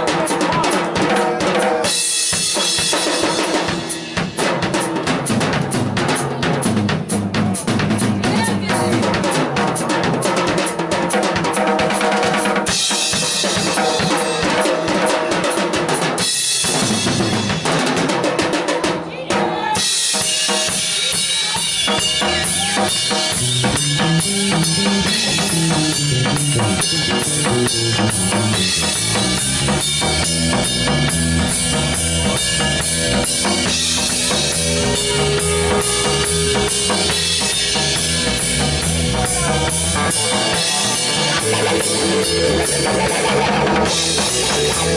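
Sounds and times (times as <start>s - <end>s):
drum kit with crashing cymbals: 0.0s - 44.9s
rock band playing: 0.0s - 44.9s.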